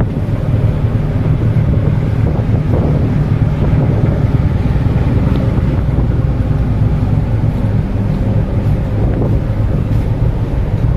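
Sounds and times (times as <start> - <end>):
ship rumbling in rough sea: 0.0 - 10.9
wind buffeting microphone: 0.0 - 10.9.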